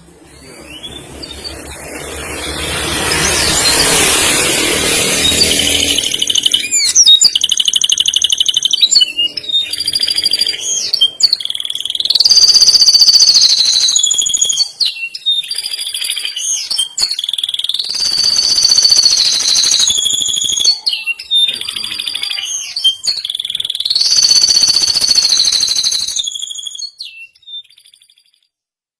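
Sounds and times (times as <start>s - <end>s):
canary singing trills: 0.0s - 28.4s.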